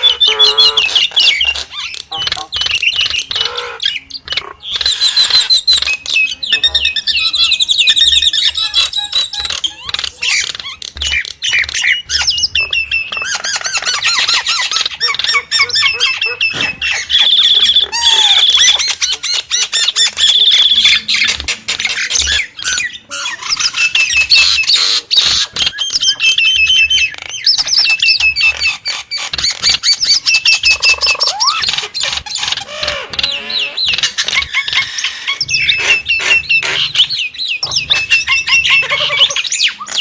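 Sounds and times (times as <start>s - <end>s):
sharp bird clicks: 0.0s - 40.0s
starling calling in sharp notes: 0.0s - 40.0s.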